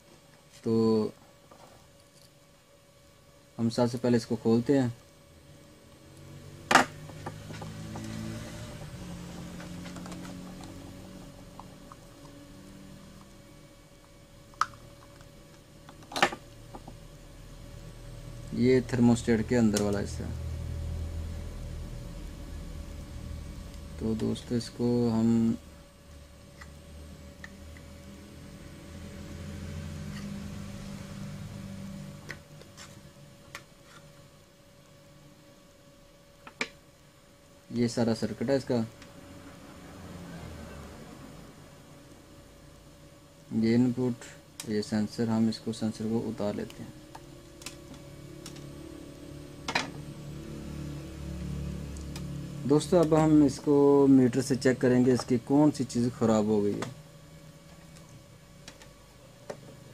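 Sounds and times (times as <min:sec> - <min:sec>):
low hum: 0:01.1 - 0:59.9.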